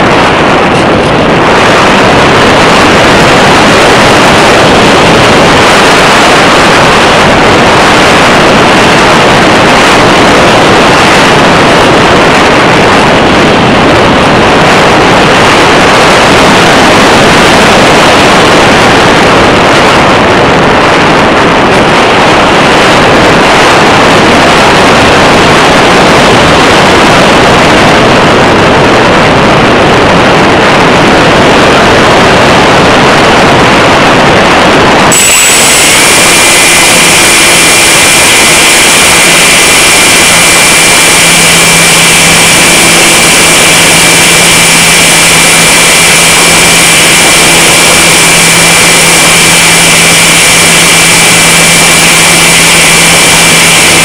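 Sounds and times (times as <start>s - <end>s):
rushing airflow over microphone: 0.0s - 54.0s.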